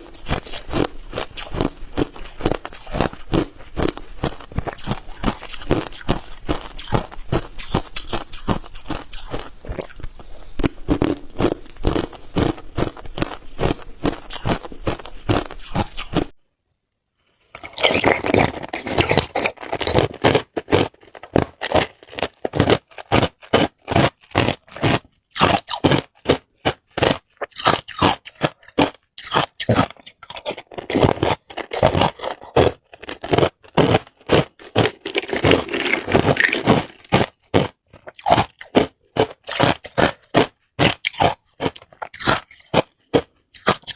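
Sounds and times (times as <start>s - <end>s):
ice cubes being chewed: 0.0s - 16.4s, 17.5s - 43.9s.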